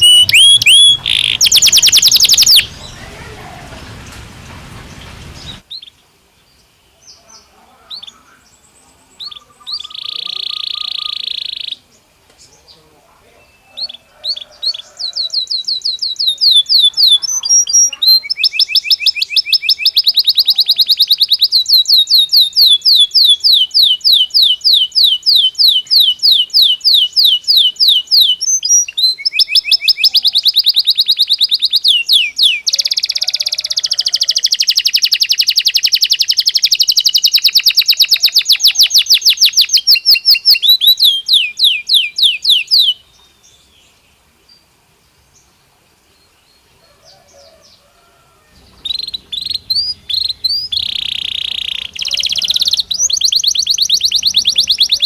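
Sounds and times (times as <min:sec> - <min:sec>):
canary singing trills: 0:00.0 - 0:04.2, 0:04.8 - 0:44.6, 0:46.2 - 0:55.0.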